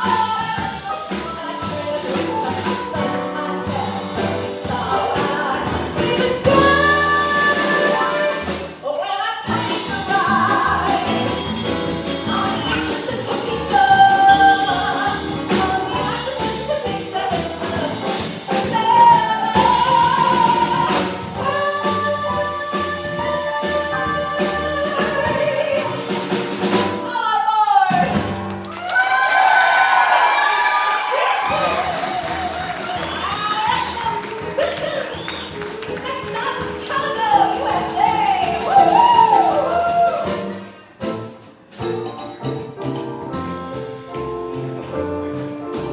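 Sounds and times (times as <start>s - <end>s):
instrumental accompaniment with percussion: 0.0s - 8.8s, 9.5s - 27.1s, 31.3s - 45.9s.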